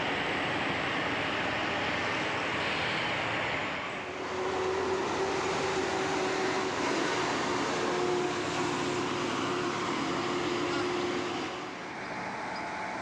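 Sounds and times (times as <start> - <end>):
heavy vehicle engine: 0.0 - 13.0.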